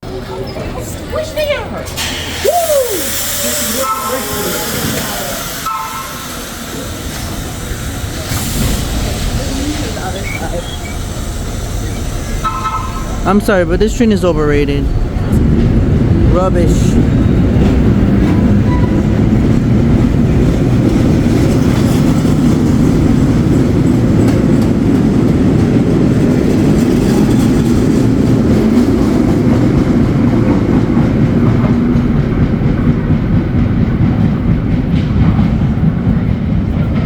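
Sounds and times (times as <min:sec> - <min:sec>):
train rumbling along rails: 0:00.0 - 0:37.0
train wheels clicking: 0:01.2 - 0:37.0.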